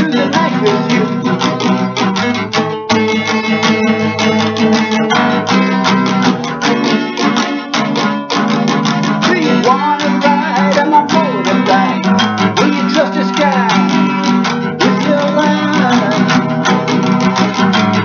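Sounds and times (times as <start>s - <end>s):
guitar-led rock music: 0.0s - 18.0s
sliding lead guitar line: 0.0s - 18.0s.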